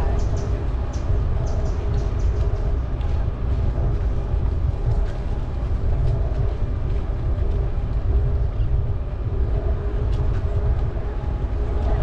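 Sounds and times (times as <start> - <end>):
bicycle rolling noise: 0.0 - 12.0
wind on microphone: 0.0 - 12.0.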